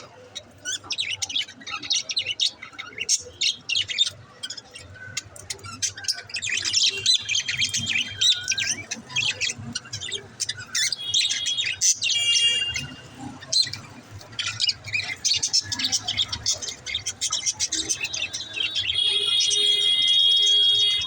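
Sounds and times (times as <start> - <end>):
budgerigars chirping and warbling: 0.0 - 21.0.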